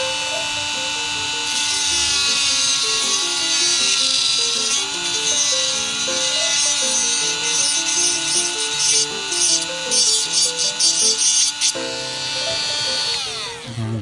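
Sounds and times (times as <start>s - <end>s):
background music: 0.0s - 14.0s
rotary tool grinding plastic: 0.0s - 14.0s.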